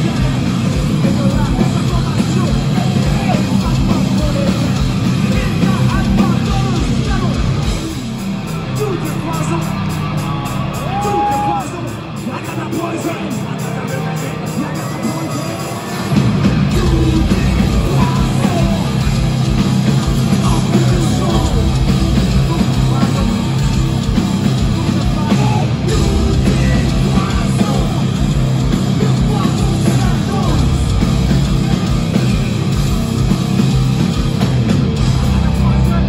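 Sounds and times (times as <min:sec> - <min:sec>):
electric guitars: 0:00.0 - 0:36.0
heavy drums: 0:00.0 - 0:36.0
metal band playing live: 0:00.0 - 0:36.0
vocals: 0:00.0 - 0:36.0.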